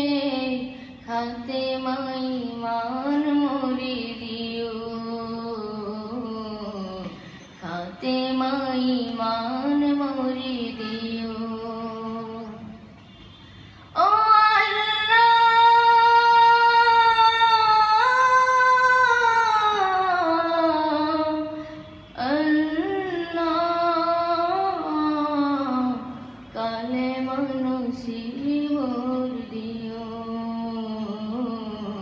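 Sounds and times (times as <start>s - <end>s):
boy singing into microphone: 0.0s - 12.9s, 13.9s - 32.0s.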